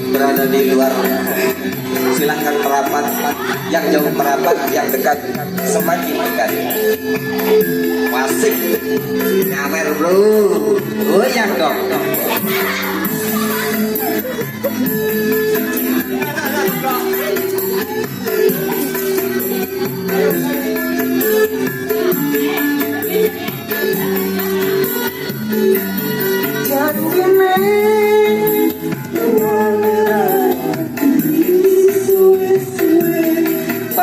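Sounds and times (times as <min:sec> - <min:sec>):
band playing sustained melody: 0:00.0 - 0:34.0.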